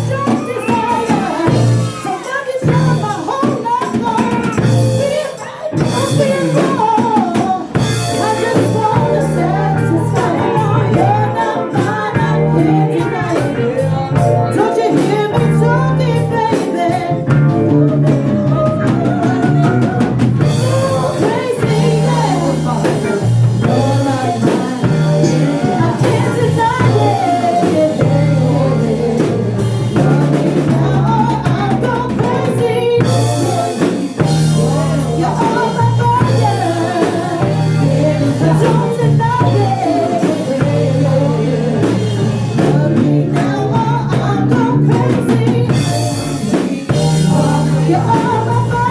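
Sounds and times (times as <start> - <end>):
bass line: 0.0 - 3.3, 4.0 - 5.2, 5.8 - 7.1, 7.7 - 48.9
band playing a song: 0.0 - 48.9
drum kit beat: 0.0 - 48.9
guitar: 0.0 - 48.9
melodic lead line: 4.5 - 48.9.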